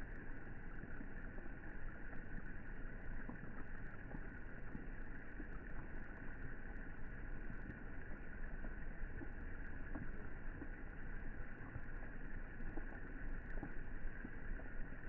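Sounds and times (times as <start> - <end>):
rain falling on pool water: 0.0 - 15.0.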